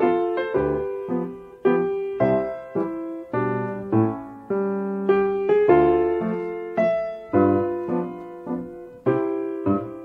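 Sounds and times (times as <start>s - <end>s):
piano single notes: 0.0s - 10.0s.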